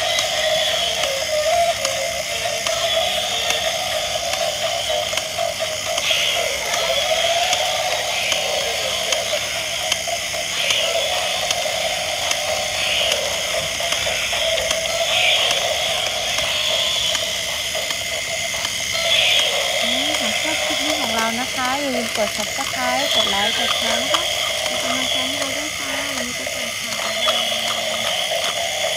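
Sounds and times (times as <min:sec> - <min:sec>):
steady droning tone: 0:00.0 - 0:28.9
toy gear mechanisms ratcheting: 0:00.0 - 0:28.9.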